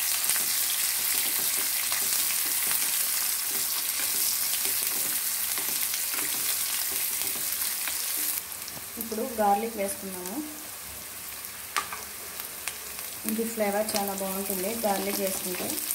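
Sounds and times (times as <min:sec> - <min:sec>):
onions sizzling in oil: 0:00.0 - 0:15.9.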